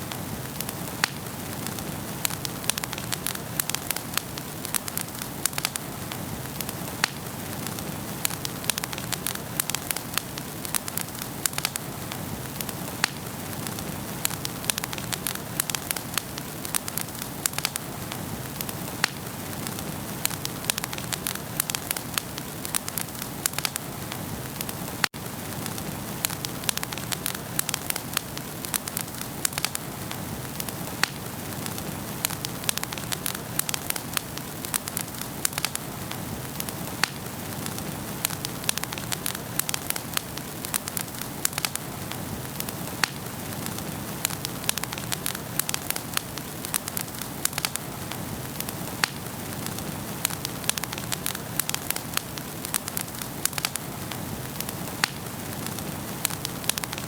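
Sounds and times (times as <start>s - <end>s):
soft hiss of flames: 0.0s - 57.0s
wood fire crackling: 0.0s - 57.0s.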